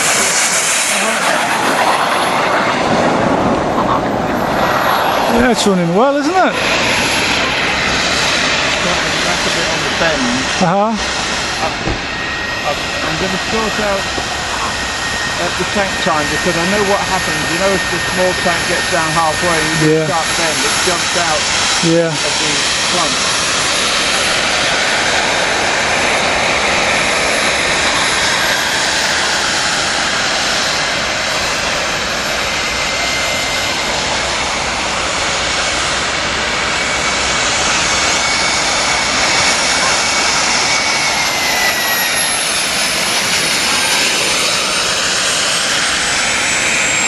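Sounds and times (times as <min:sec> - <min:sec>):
high turbine whistle: 0:00.0 - 0:47.0
model jet turbine running: 0:00.0 - 0:47.0.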